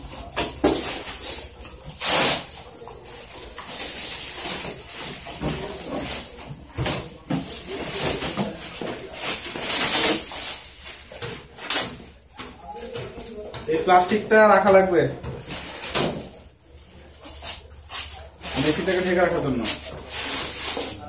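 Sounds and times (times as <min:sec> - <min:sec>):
plastic bag crinkling: 0:00.0 - 0:12.4, 0:15.4 - 0:21.0.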